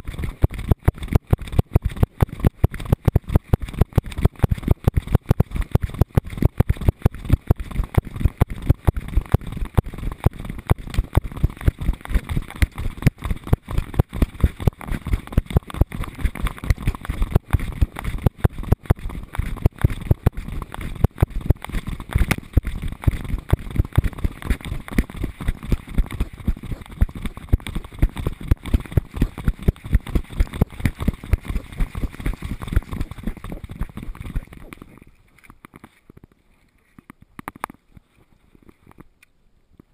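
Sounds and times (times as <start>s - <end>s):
camera thumping and rattling: 0.0s - 39.1s.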